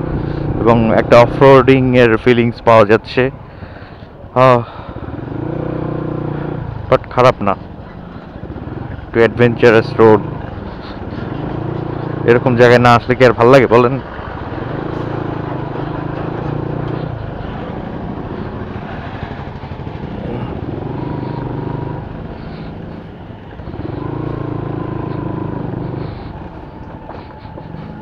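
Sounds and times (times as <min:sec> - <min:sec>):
motorcycle engine revving: 0:00.0 - 0:01.9, 0:04.3 - 0:28.0.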